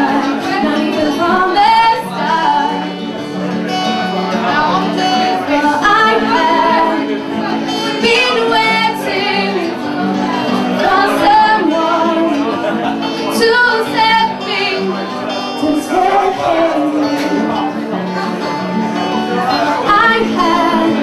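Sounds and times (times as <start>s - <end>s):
woman singing: 0.0s - 3.2s, 5.1s - 17.7s, 19.5s - 21.0s
acoustic guitar chords: 0.0s - 21.0s.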